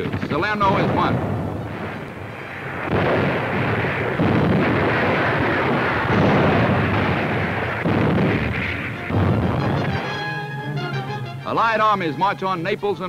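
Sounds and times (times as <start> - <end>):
artillery explosions booming: 0.0 - 11.1.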